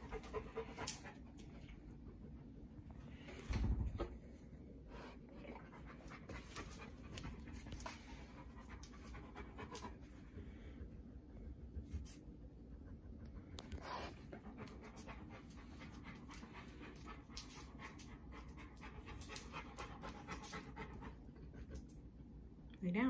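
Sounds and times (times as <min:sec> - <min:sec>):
dog panting: 0:00.0 - 0:03.2, 0:05.0 - 0:11.9, 0:12.6 - 0:22.1.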